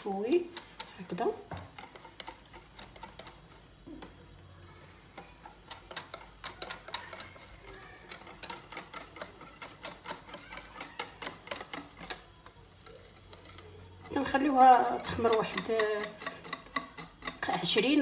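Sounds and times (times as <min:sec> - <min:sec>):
whisk beating batter in glass bowl: 0:00.0 - 0:18.0.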